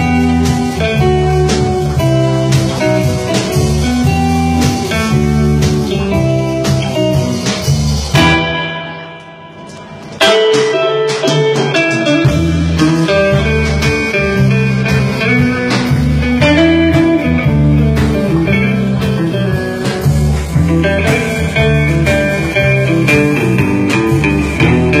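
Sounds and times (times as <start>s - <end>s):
electric blues band playing: 0.0s - 25.0s
electric guitar lead line: 0.0s - 25.0s.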